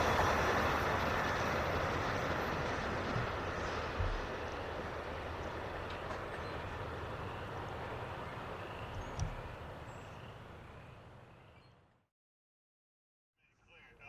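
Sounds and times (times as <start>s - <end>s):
train rolling on rails: 0.0s - 11.6s.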